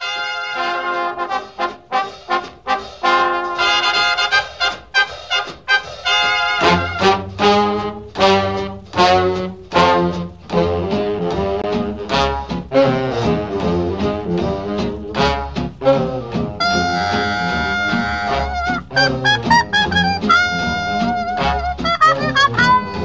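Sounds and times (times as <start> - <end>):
upbeat brass swing music: 0.0 - 23.0.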